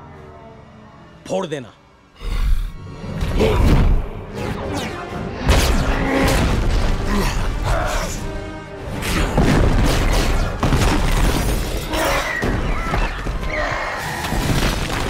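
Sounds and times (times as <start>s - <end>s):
orchestral score: 0.0s - 14.6s.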